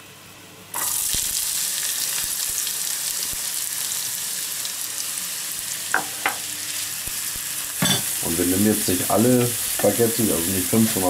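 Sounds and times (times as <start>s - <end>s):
onion sizzling in hot oil: 0.7s - 11.0s.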